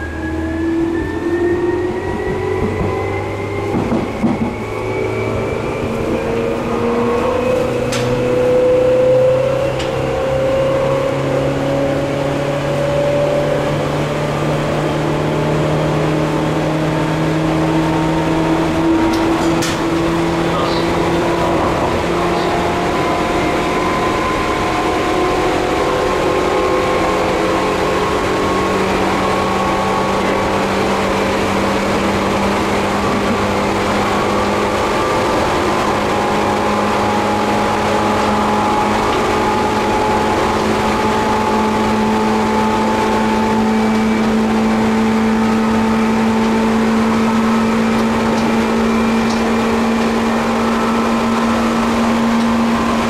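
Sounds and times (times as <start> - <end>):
electric train motor hum: 0.0 - 53.0
wheel and rail rumble: 0.0 - 53.0.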